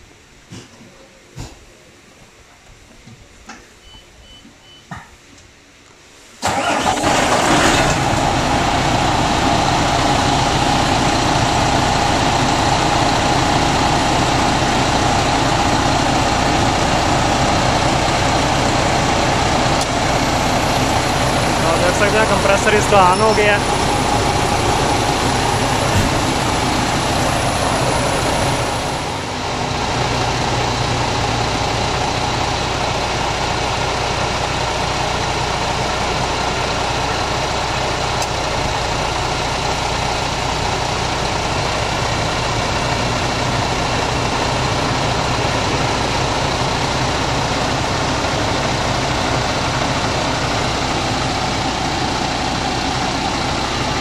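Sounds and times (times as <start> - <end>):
diesel truck engine idling: 6.4 - 54.0.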